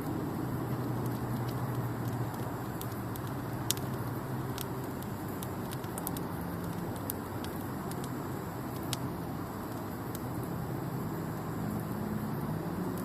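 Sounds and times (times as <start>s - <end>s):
campfire burning: 0.0s - 13.0s
fire crackles and pops: 0.0s - 13.0s.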